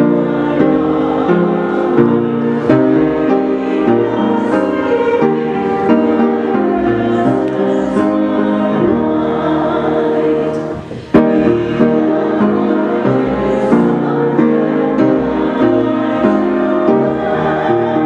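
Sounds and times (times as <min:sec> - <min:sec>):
choir singing a hymn: 0:00.0 - 0:18.0
piano accompaniment: 0:00.0 - 0:18.0.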